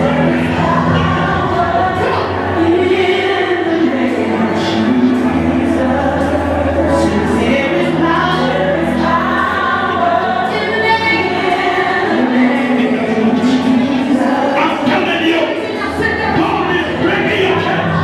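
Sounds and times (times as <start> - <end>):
congregation and choir singing: 0.0 - 18.0.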